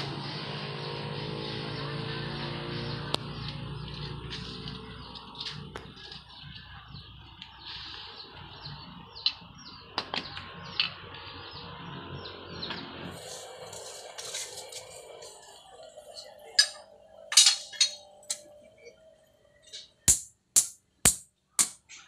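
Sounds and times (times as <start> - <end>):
small birds chirping: 0.0 - 20.1.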